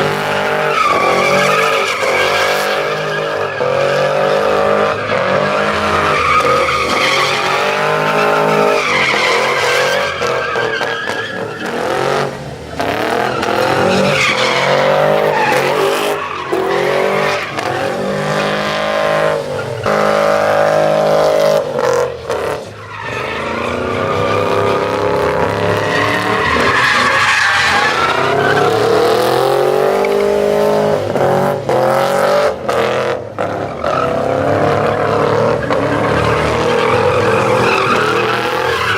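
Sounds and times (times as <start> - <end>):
tyres squealing on pavement: 0.0 - 31.8, 33.4 - 38.9
truck engines revving: 0.0 - 38.9.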